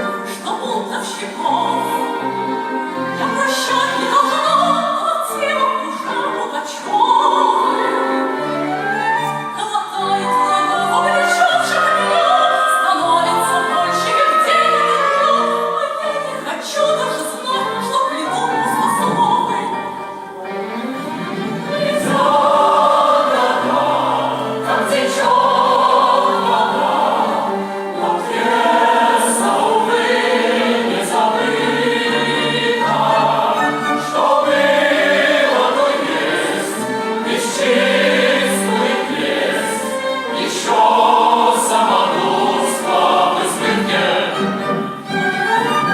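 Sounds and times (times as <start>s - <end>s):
choir singing operatically: 0.0s - 45.9s
orchestral accompaniment: 0.0s - 45.9s.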